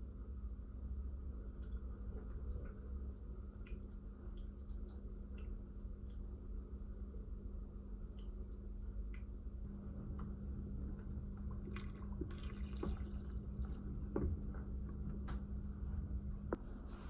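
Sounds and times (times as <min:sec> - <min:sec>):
low electrical hum: 0:00.0 - 0:17.0
water dripping: 0:01.4 - 0:15.5.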